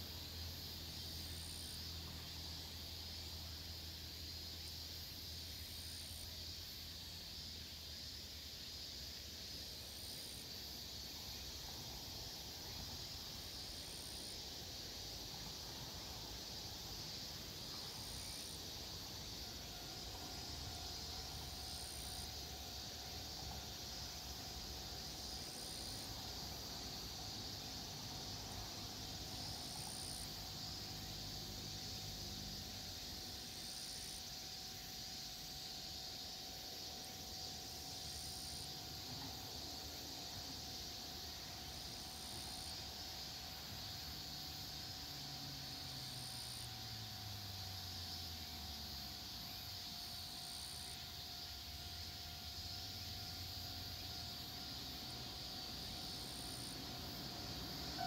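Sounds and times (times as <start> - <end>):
faint steady hum: 0.0 - 58.0
insects droning: 0.0 - 58.0.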